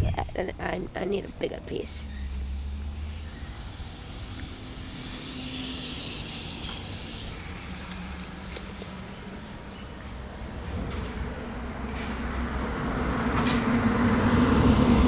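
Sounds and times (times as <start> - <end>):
traffic low rumble: 0.0 - 15.0
vehicle passing hiss: 2.0 - 15.0.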